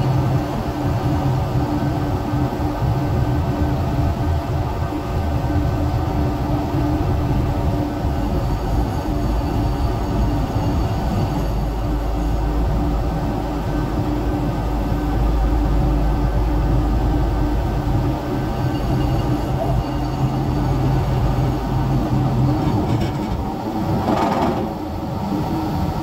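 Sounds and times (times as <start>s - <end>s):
diesel engine rumble: 0.0s - 26.0s
steady hum: 0.0s - 26.0s.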